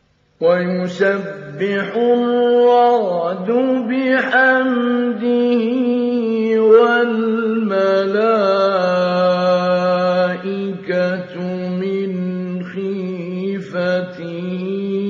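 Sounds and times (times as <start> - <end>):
man chanting melodically: 0.4 - 15.0.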